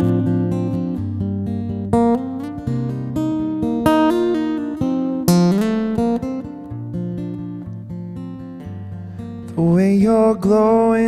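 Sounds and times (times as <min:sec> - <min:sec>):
acoustic guitar chords strummed: 0:00.0 - 0:11.0.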